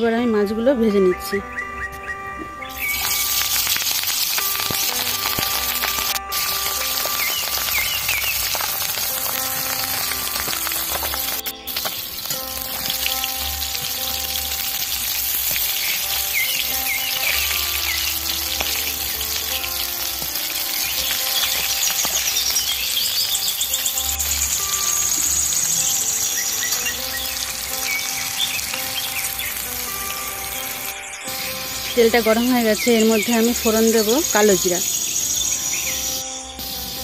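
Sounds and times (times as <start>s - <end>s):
fish frying in hot oil: 2.8s - 37.0s.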